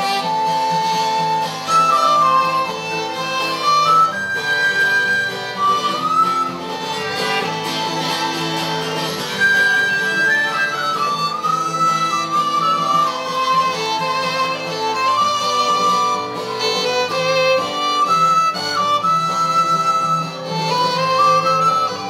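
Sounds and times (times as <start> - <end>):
fiddle playing melody: 0.0 - 22.0
guitar chords: 0.0 - 22.0.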